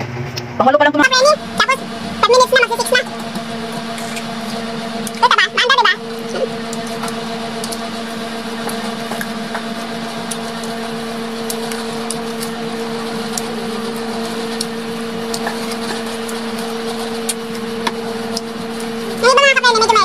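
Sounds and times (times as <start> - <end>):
steady machine hum: 0.0 - 20.0
person chewing crisp fruit: 3.0 - 19.2.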